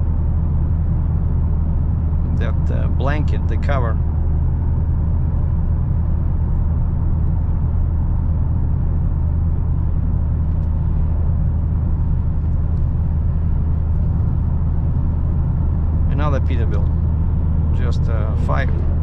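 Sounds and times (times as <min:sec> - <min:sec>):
car engine and tyre drone: 0:00.0 - 0:19.0.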